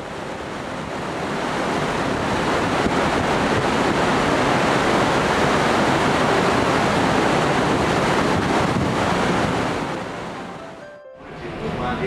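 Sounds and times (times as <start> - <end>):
wind on microphone: 0.0 - 10.6
water rushing along ship hull: 0.0 - 12.0.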